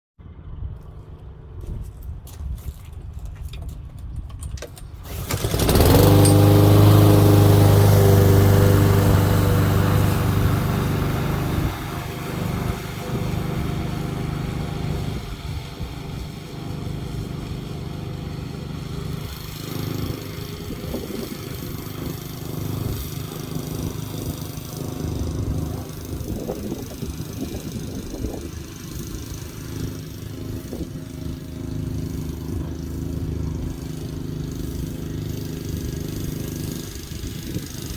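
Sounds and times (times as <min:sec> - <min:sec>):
lawn mower engine running: 0:00.3 - 0:37.9.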